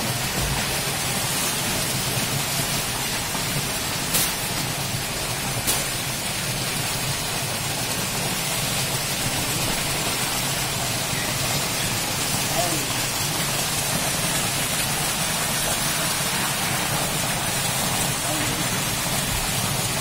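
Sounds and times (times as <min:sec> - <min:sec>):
water gushing and splashing: 0:00.0 - 0:20.0.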